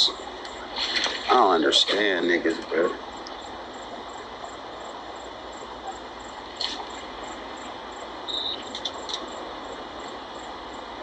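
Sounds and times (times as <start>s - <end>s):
crickets chirping: 0.0s - 11.0s
steady background hiss: 0.0s - 11.0s.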